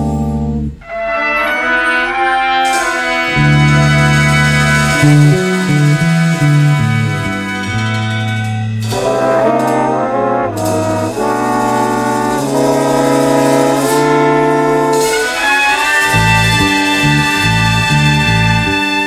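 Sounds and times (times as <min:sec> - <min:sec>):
bass line: 0:00.0 - 0:00.9, 0:02.6 - 0:19.0
brass chords: 0:00.0 - 0:19.0
jazz big band playing: 0:00.0 - 0:19.0.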